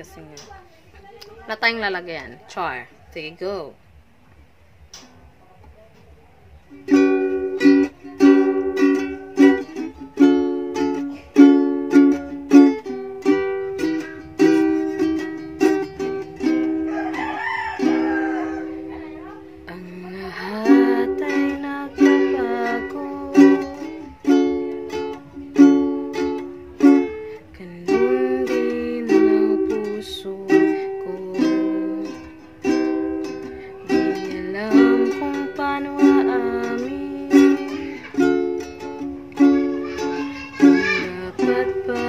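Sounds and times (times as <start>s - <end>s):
ukulele strumming chords: 4.8s - 42.0s.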